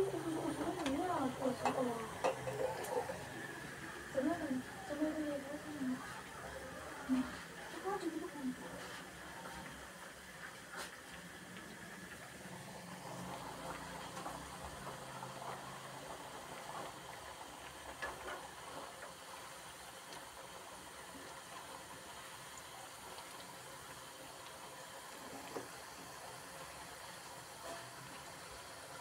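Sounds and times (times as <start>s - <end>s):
fries sizzling in hot oil: 0.0s - 29.0s.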